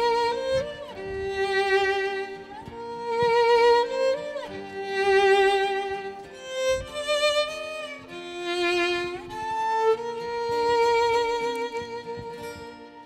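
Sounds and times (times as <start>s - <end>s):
guitar accompaniment: 0.0s - 13.0s
violin slow melody: 0.0s - 13.0s.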